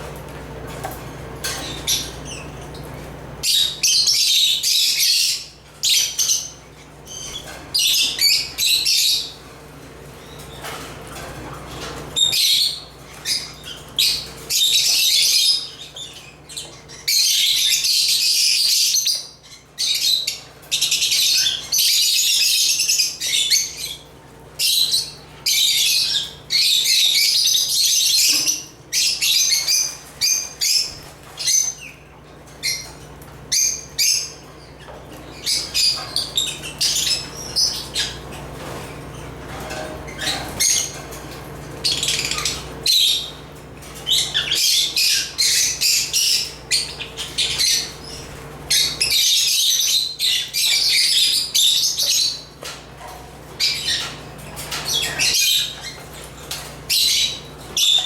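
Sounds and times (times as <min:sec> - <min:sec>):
lovebirds chirping: 0:01.4 - 0:09.4, 0:11.8 - 0:52.8.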